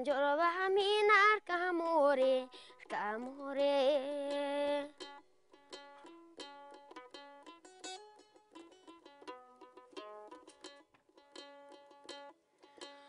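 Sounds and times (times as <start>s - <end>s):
plucked string instrument: 1.6s - 13.0s.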